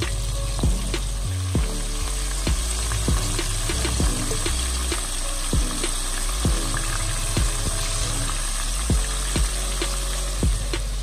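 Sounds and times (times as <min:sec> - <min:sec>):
low thumps: 0:00.0 - 0:08.1, 0:08.8 - 0:11.0
oil sizzling and bubbling: 0:00.0 - 0:11.0.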